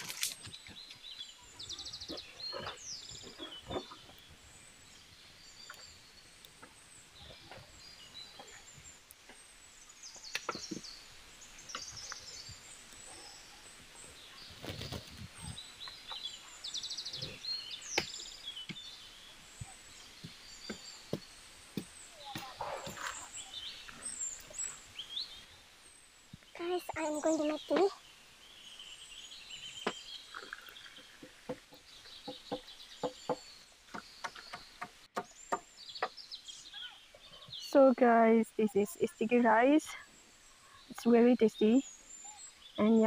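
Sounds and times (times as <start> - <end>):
wild birds chirping and whistling: 0.0 - 43.0.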